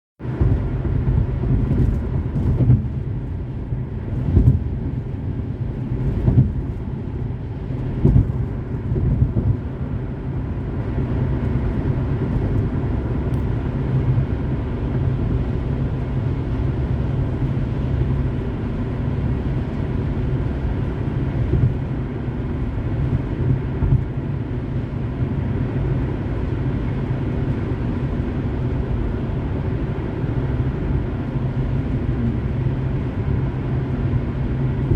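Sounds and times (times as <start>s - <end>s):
road and tyre rumble: 0.2s - 34.9s.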